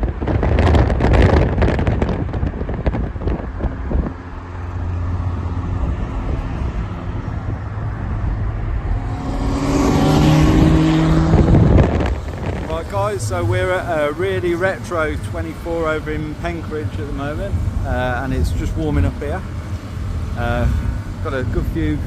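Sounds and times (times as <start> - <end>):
car engines running: 0.0 - 22.0
wind buffeting microphone: 0.0 - 22.0.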